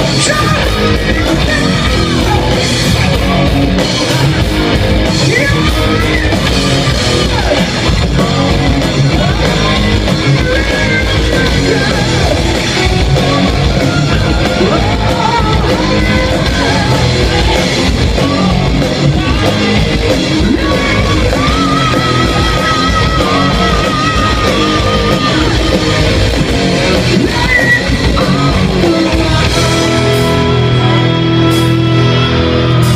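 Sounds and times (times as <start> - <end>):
electric guitar: 0.0 - 32.9
rock band playing live: 0.0 - 32.9.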